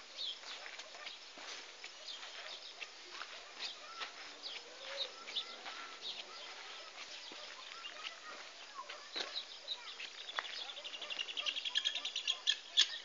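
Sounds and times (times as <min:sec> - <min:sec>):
faint steady hiss: 0:00.0 - 0:13.0
small birds chirping: 0:00.0 - 0:13.0.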